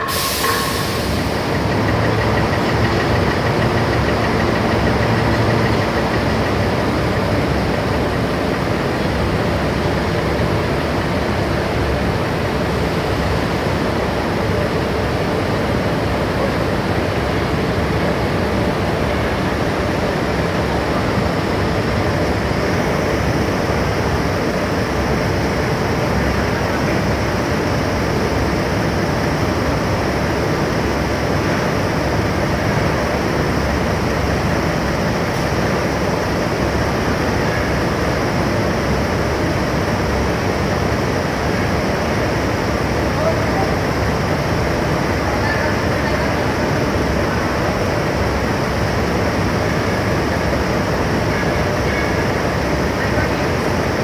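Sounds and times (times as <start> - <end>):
heavy machinery droning: 0.0 - 54.0.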